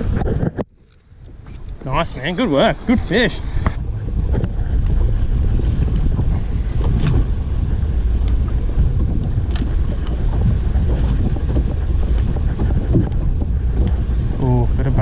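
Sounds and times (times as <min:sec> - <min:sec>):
water against boat hull: 0:00.0 - 0:15.0
wind buffeting microphone: 0:00.0 - 0:15.0.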